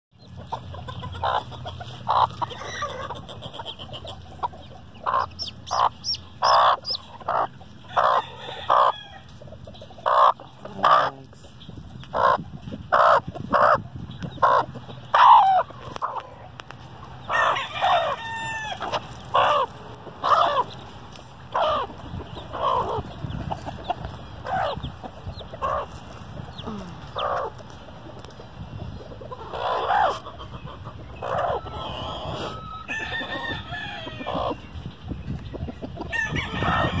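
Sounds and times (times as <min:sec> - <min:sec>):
chickens clucking: 0:00.1 - 0:37.0
chicken gliding calls: 0:00.2 - 0:37.0.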